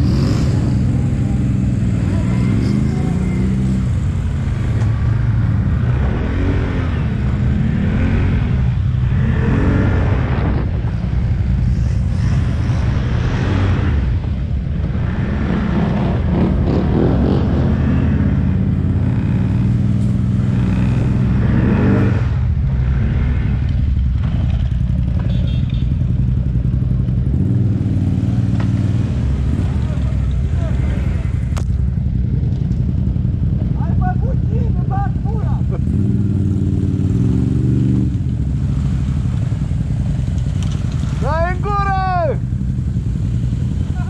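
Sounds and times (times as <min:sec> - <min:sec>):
atv engine revving: 0:00.0 - 0:14.2, 0:14.8 - 0:44.0.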